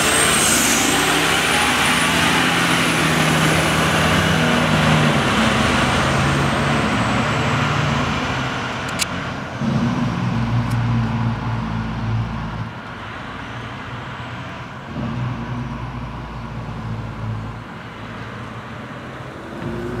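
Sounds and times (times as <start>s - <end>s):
truck diesel engine driving off: 0.0s - 20.0s.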